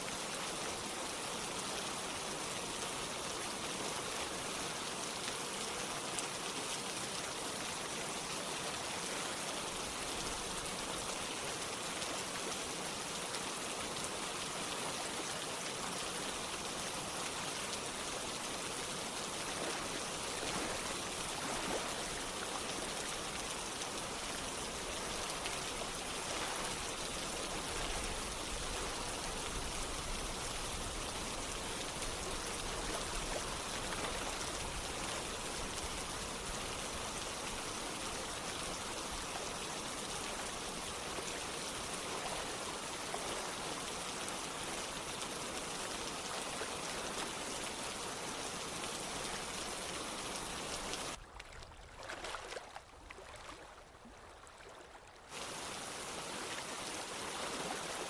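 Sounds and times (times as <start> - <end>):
steady rain: 0.0 - 51.2, 55.3 - 58.0
running water: 0.0 - 58.0.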